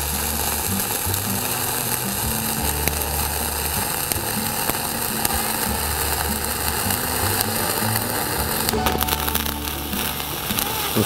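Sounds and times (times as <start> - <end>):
spatter pops: 0.0 - 11.0
welding arc crackling hiss: 0.0 - 11.0.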